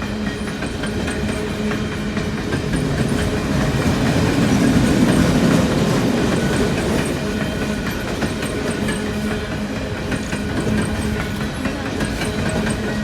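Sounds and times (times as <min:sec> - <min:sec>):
train rumbling past: 0:00.0 - 0:13.0
wheels clacking over rail joints: 0:00.0 - 0:13.0.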